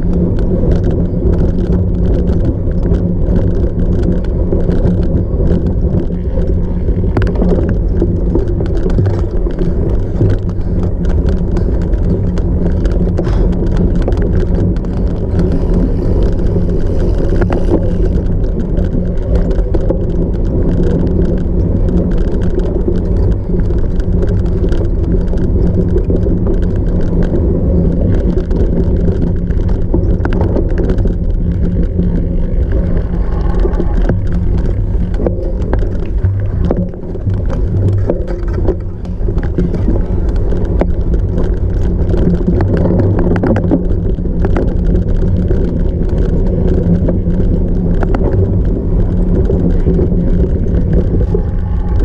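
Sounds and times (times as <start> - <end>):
bike rattles and knocks: 0.0 - 52.0
bike rumbling over rough ground: 0.0 - 52.0.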